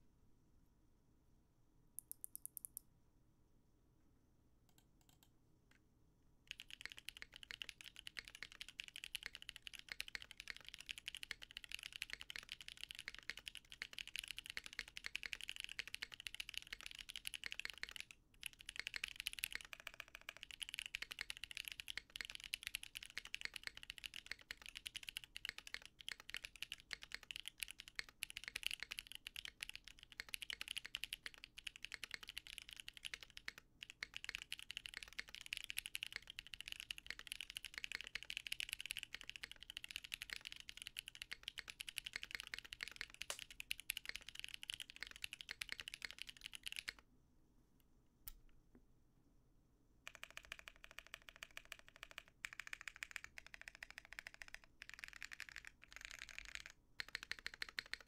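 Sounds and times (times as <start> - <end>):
mechanical keyboard typing: 6.5 - 47.0, 50.1 - 58.0.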